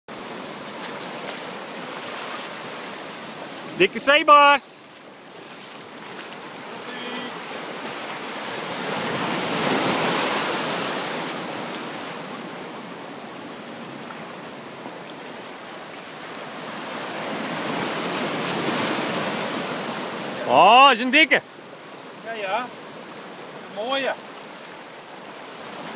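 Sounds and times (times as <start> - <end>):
surf washing over stony beach: 0.1 - 25.9.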